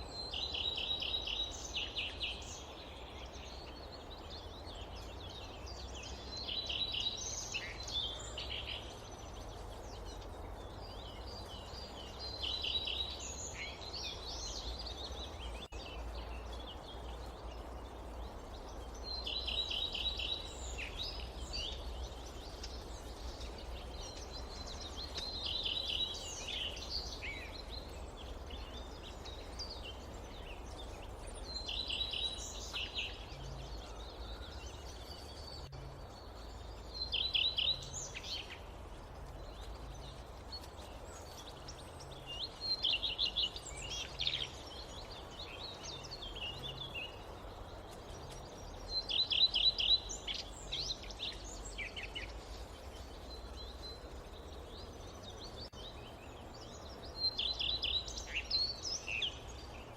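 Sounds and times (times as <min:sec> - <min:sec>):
birds singing: 0:00.0 - 0:59.9
low background noise: 0:00.0 - 0:59.9.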